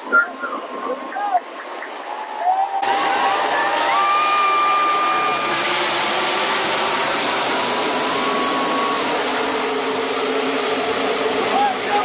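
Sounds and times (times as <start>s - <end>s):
race cars roaring past: 1.4s - 12.0s.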